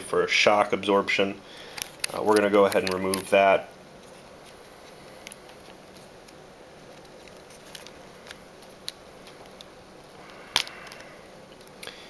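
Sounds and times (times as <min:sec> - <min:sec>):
steady low hiss: 0:00.0 - 0:12.0
handling sounds: 0:01.6 - 0:12.0.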